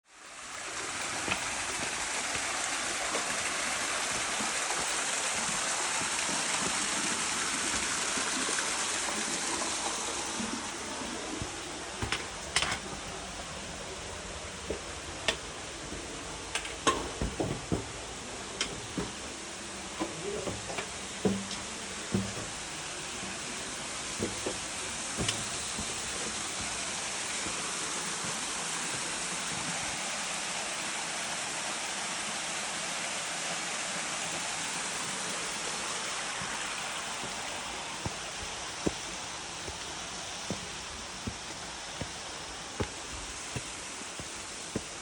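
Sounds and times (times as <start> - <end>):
waterfall rushing: 0.1 - 45.0.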